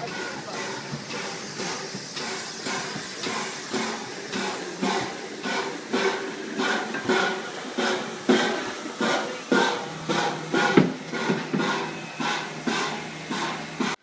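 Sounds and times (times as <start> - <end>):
steady hiss of steam: 0.0 - 14.0
steam locomotive exhaust chuffing: 0.0 - 14.0.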